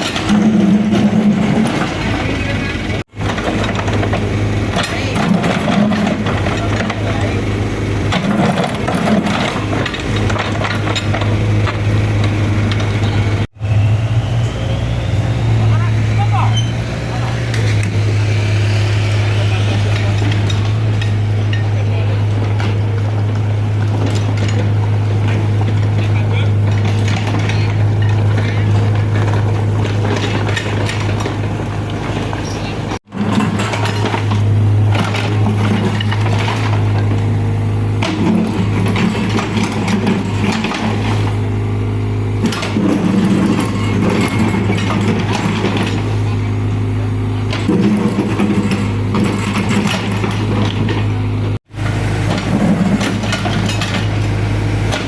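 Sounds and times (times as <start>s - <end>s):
knocks and clanks: 0.0s - 13.5s, 15.4s - 55.0s
diesel engine running: 0.0s - 55.0s.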